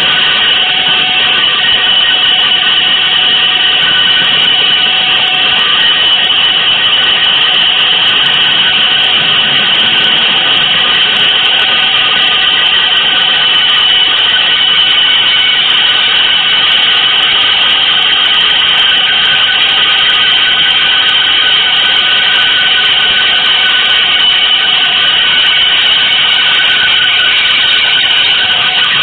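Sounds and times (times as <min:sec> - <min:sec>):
electronic noise drone: 0:00.0 - 0:29.0
held high tones: 0:00.0 - 0:29.0.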